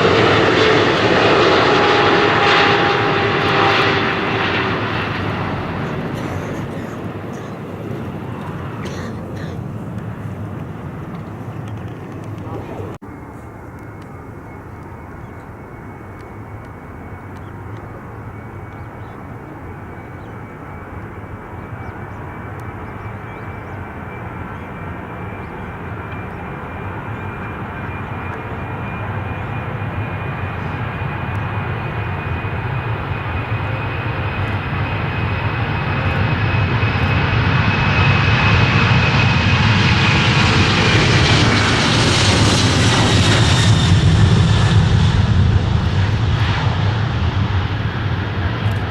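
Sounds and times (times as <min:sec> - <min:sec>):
airliner engines approaching: 0:00.0 - 0:48.9
high jet whine: 0:00.0 - 0:48.9.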